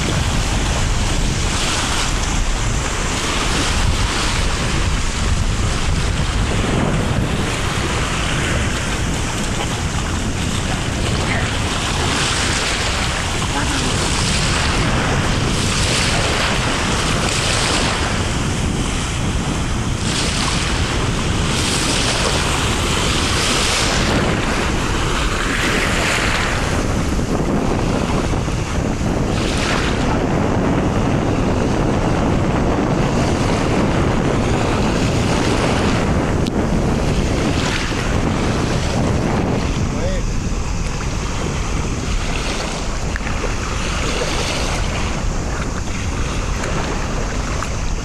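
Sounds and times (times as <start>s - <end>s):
waves washing on pebbly shore: 0.0s - 48.0s
wind buffeting microphone: 0.0s - 48.0s.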